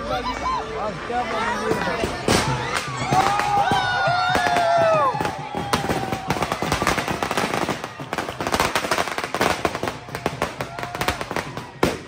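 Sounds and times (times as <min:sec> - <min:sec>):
fireworks crackling: 0:01.8 - 0:12.0.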